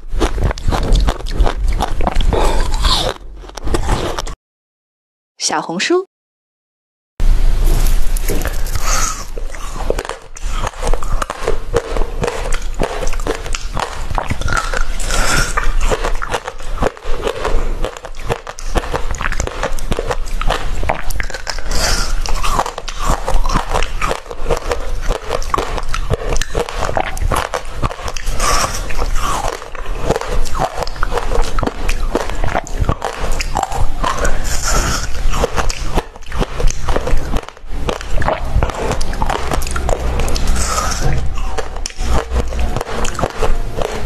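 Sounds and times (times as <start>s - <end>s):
crunching ice while chewing: 0.0s - 4.4s, 7.8s - 44.0s.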